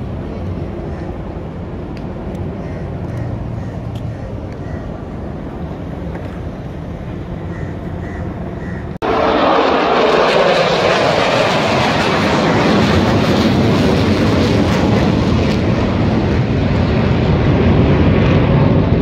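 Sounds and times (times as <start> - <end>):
fighter jets flying overhead: 0.0 - 19.0.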